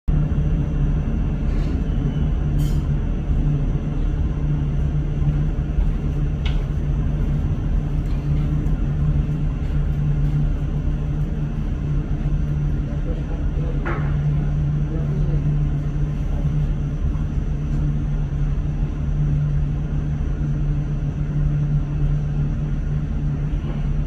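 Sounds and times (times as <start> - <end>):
mechanical hum and rumble: 0.0 - 24.0.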